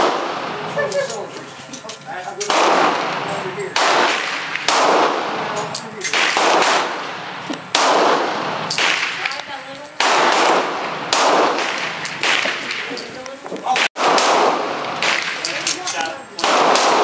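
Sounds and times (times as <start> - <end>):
pistol shots with echo: 0.0 - 0.5, 2.4 - 13.0, 13.7 - 15.8, 16.4 - 17.0.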